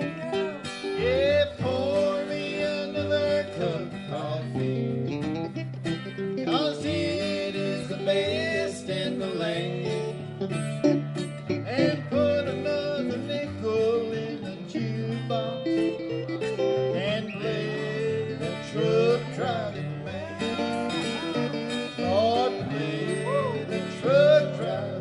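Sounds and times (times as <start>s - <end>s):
acoustic country instrumental: 0.0s - 25.0s.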